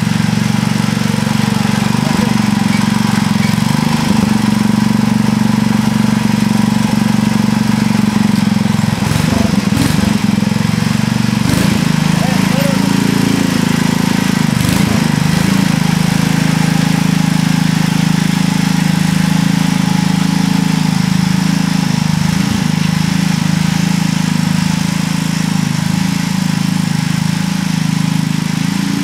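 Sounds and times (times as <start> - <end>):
garden tractor engine running: 0.0 - 29.0.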